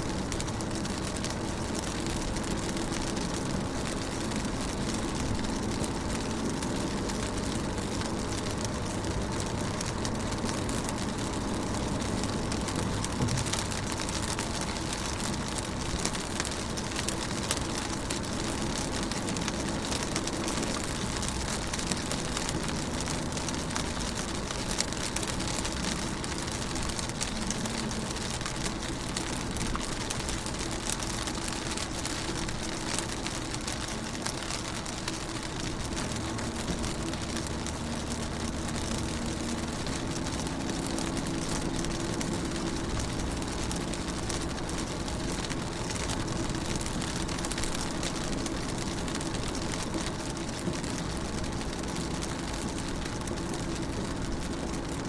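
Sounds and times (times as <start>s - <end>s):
rain on car windows: 0.0s - 55.0s.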